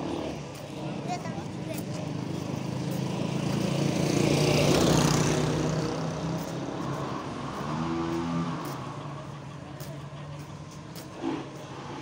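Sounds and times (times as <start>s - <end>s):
motorcycles driving past: 0.0s - 12.0s.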